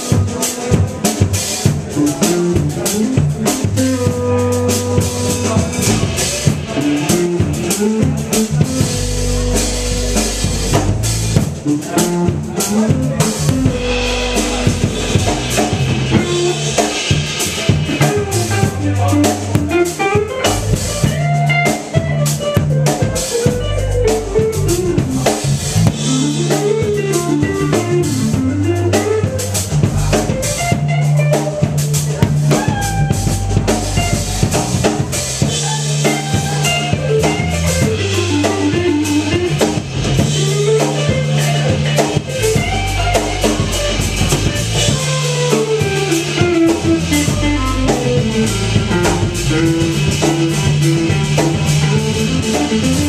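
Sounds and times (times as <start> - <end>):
bass line: 0.0 - 53.0
drum kit with rimshots: 0.0 - 53.0.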